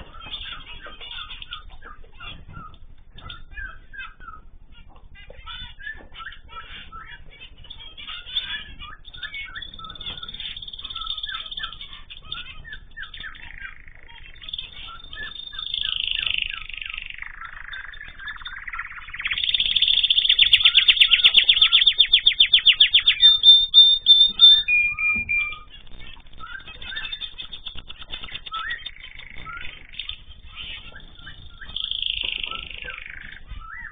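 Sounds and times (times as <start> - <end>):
canary singing fast trill: 0.0 - 33.9
small birds chirping: 0.0 - 33.9.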